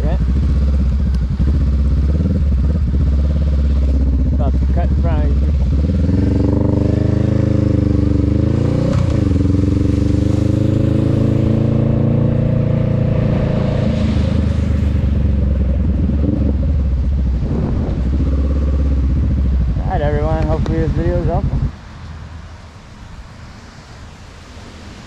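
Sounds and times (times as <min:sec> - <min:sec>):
gear change: 0:00.0 - 0:21.7
motorcycle engine running: 0:00.0 - 0:21.7.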